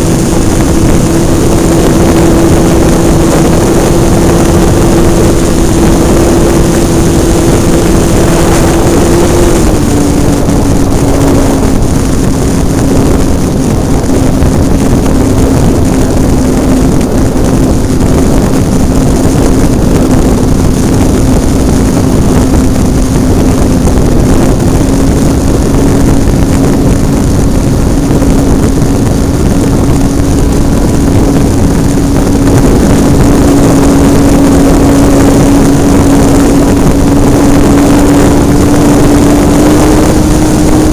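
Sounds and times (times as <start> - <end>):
model airplane engine and propeller: 0.0 - 40.9
rush of air: 0.0 - 40.9.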